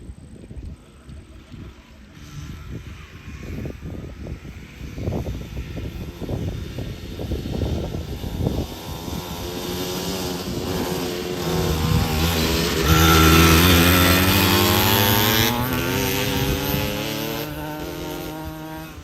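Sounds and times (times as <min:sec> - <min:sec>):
wind rumble on microphone: 0:00.0 - 0:19.0
dirt bike engine revving: 0:01.4 - 0:19.0.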